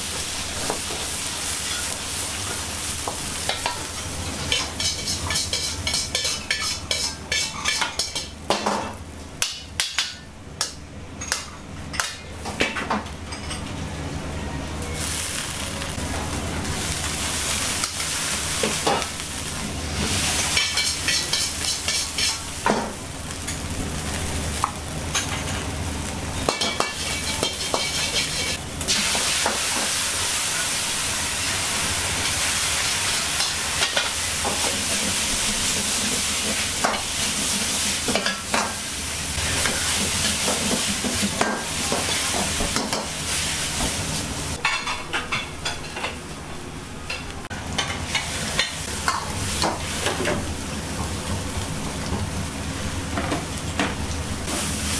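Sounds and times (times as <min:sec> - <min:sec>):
vegetables sizzling in a wok: 0:00.0 - 0:10.9, 0:12.2 - 0:45.9, 0:46.8 - 0:54.9.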